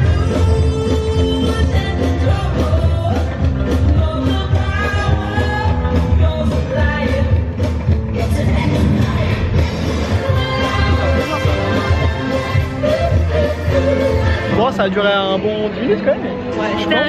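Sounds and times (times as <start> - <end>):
pop song with singer and beat: 0.0 - 17.0.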